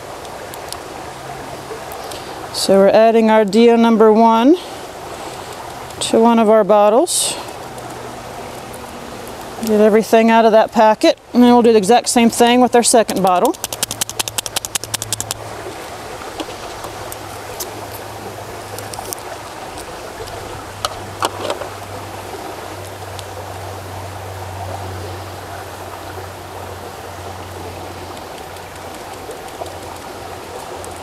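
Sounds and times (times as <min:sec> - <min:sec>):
creek running over rocks: 0:00.0 - 0:31.0.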